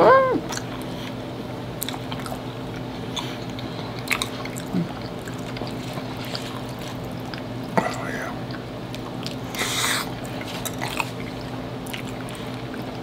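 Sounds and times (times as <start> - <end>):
steady low hum: 0.0 - 13.0
close-miked chewing and squishing: 0.5 - 13.0.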